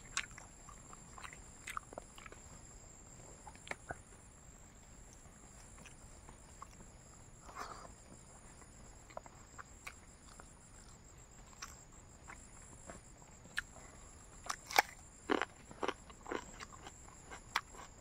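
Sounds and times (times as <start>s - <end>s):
crunchy food being chewed: 0.0s - 18.0s.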